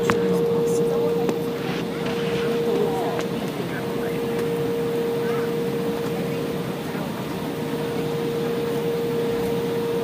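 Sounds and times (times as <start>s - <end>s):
jet engine rumble: 0.0s - 10.0s
mid-pitched whine: 0.0s - 10.0s.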